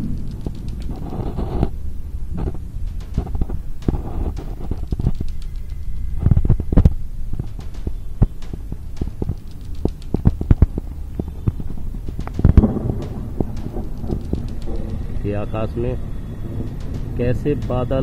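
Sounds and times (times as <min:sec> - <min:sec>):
thunder crackles: 0:00.0 - 0:18.0
thunder rumbling: 0:00.0 - 0:18.0.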